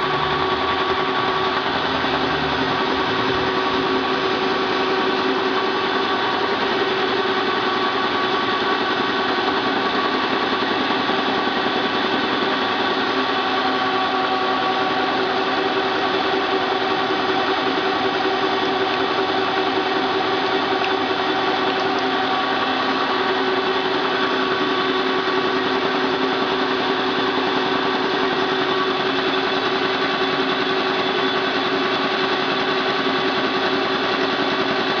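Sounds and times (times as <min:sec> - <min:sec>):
printing press mechanical whir: 0:00.0 - 0:35.0.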